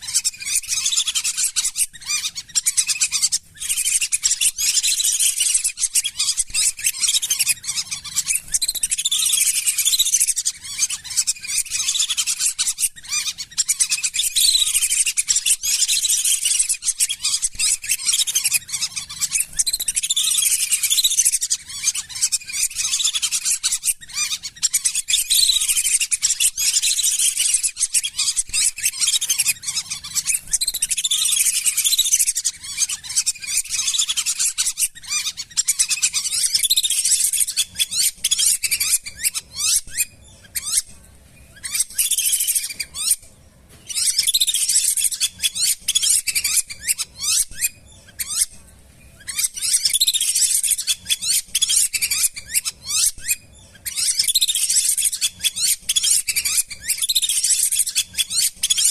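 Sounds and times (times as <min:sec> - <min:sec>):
ducks whistling: 0:00.0 - 0:40.9, 0:41.6 - 0:48.5, 0:49.2 - 0:58.9.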